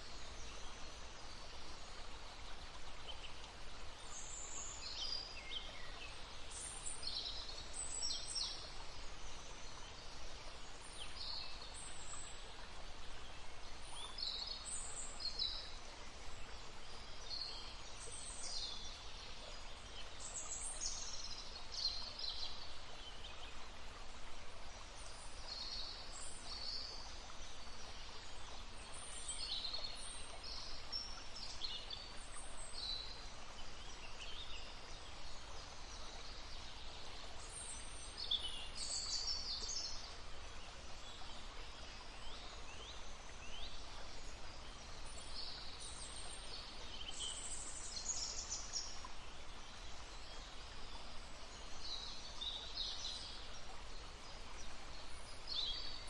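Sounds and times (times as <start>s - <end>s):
brook babbling: 0.0s - 56.0s.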